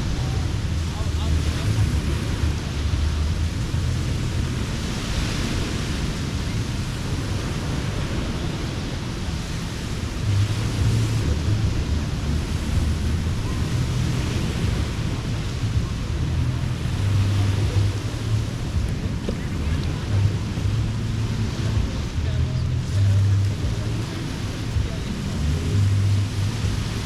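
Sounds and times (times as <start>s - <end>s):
surf washing on sand: 0.0s - 27.0s
wind rumble on microphone: 0.0s - 27.0s.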